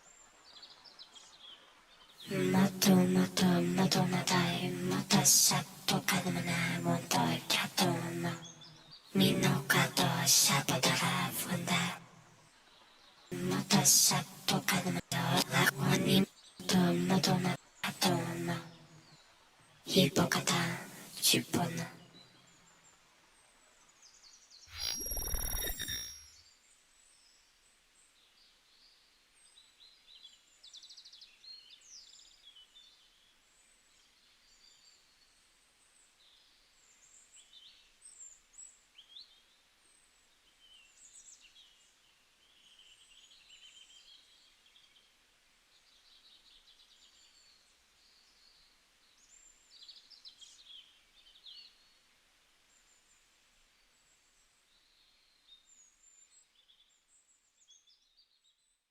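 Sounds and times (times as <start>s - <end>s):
faint birdsong chirps and trills: 0.0s - 20.5s, 21.8s - 58.9s
low steady hiss: 0.0s - 24.6s, 26.4s - 58.6s.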